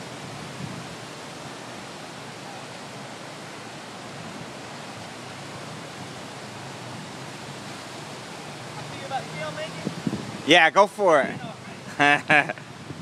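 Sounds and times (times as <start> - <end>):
floodwater rushing across a street: 0.0 - 13.0.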